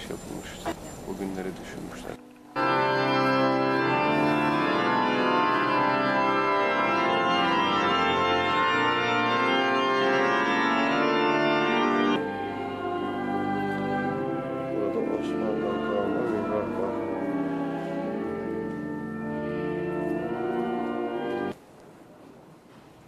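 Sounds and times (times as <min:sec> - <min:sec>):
pipe organ chords: 0:01.2 - 0:21.6.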